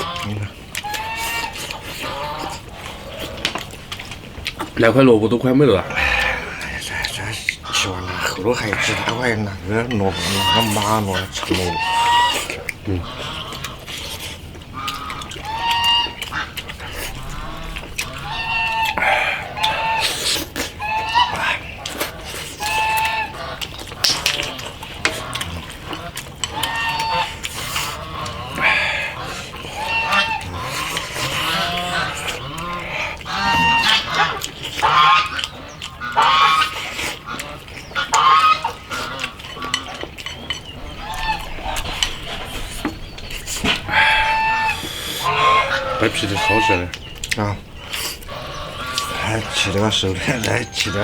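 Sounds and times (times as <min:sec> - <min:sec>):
waterfowl nasal calls: 0:00.0 - 0:04.9, 0:05.7 - 0:51.0
geese honking: 0:00.0 - 0:51.0.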